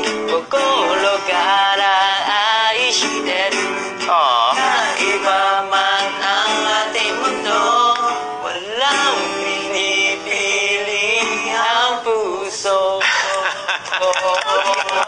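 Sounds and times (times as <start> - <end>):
acoustic guitar: 0.0 - 15.0
two men singing: 0.0 - 15.0.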